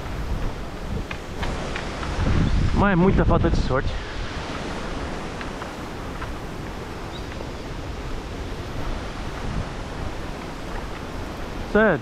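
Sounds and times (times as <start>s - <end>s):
storm wind rumbling on microphone: 0.0s - 12.0s.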